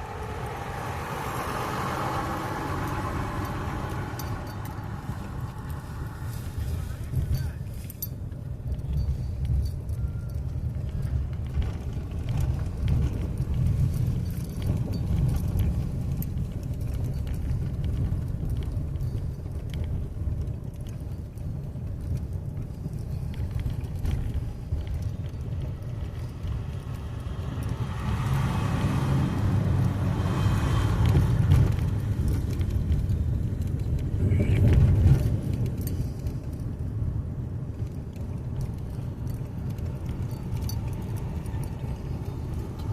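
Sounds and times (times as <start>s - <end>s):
car rumbling over bumpy surface: 0.0s - 42.9s
light rattles: 0.0s - 42.9s.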